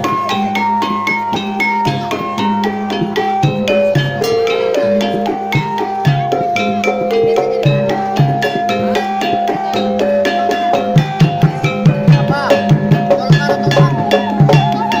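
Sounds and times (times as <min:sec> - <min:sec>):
gamelan metal-keyed melody: 0:00.0 - 0:15.0
hand-drum strokes: 0:00.0 - 0:15.0
held ringing tone: 0:00.0 - 0:15.0.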